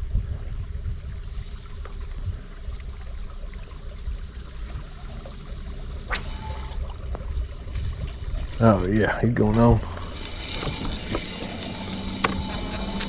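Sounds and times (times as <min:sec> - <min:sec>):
faint steady hum: 0:00.0 - 0:13.0
water lapping against a hull: 0:00.0 - 0:13.0.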